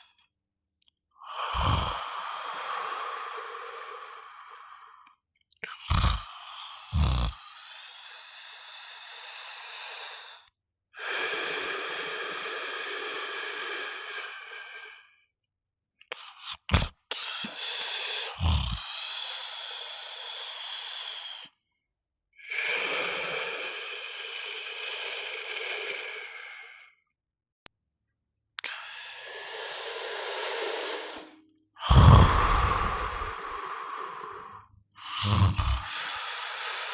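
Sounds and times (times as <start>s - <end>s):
person snoring: 1.2s - 4.7s, 5.6s - 15.0s, 16.3s - 21.6s, 22.4s - 27.0s, 28.6s - 36.9s.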